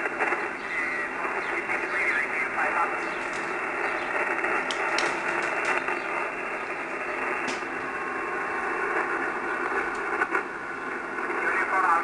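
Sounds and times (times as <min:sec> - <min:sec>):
radio band noise hiss: 0:00.0 - 0:12.0.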